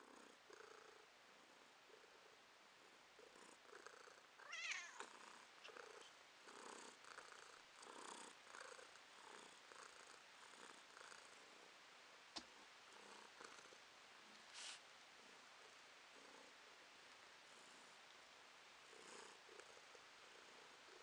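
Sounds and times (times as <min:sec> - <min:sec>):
cat purring: 0:00.0 - 0:11.8, 0:12.4 - 0:13.9, 0:14.6 - 0:21.0.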